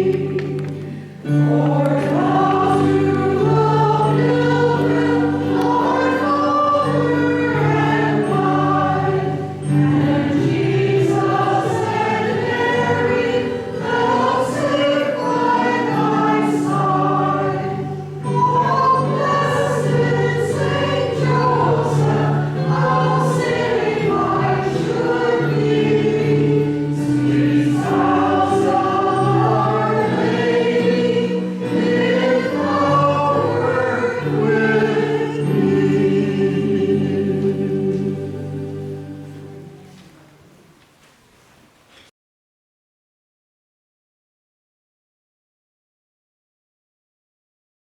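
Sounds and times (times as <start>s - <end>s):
choir singing a hymn: 0.0s - 40.4s.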